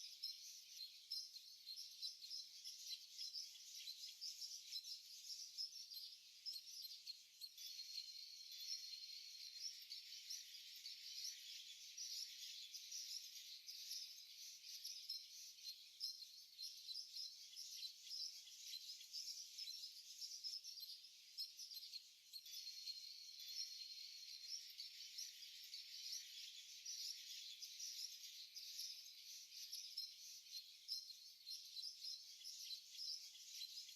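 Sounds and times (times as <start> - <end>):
cage birds chirping: 0.0 - 33.9.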